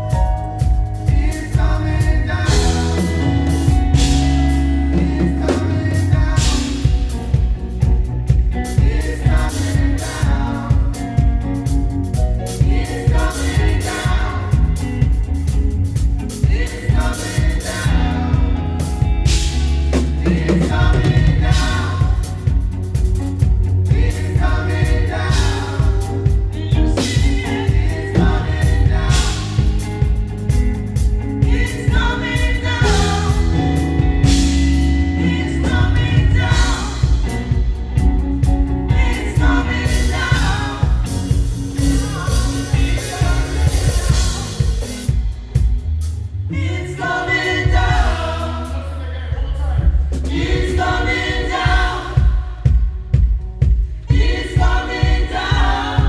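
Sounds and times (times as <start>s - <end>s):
bass guitar: 0.0s - 56.0s
drum kit: 0.0s - 56.0s
group of singers: 0.0s - 56.0s.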